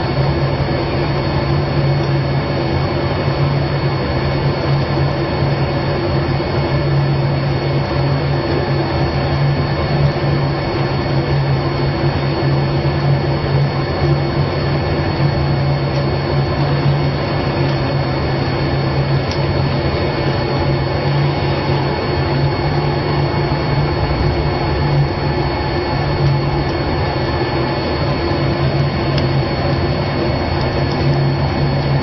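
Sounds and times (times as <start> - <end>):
fan-like machine drone: 0.0 - 32.0.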